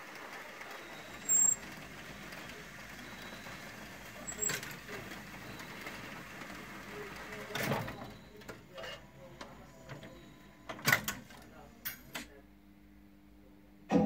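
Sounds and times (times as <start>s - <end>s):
jukebox mechanism whirring: 0.0s - 12.0s.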